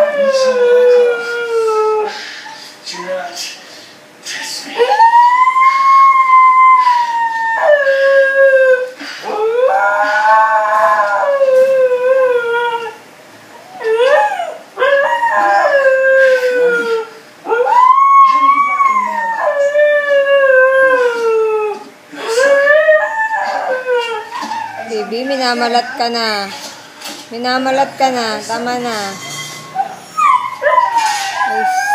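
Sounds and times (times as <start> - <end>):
dog howling: 0.0 - 2.2, 4.8 - 26.3, 28.8 - 31.9.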